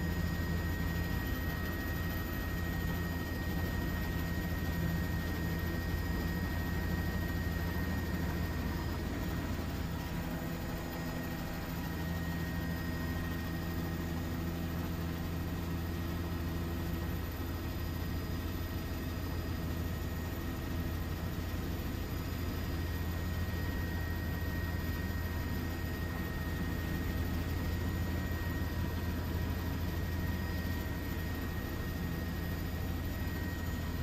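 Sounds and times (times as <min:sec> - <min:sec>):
aircraft engine drone: 0:00.0 - 0:34.0.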